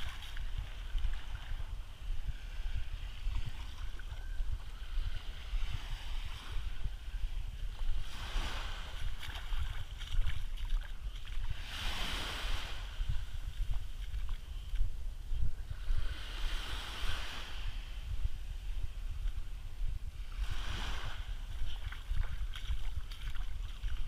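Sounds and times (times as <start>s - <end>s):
small waves lapping on beach: 0.0s - 14.9s, 15.7s - 24.0s
wind rumble on microphone: 0.0s - 24.0s.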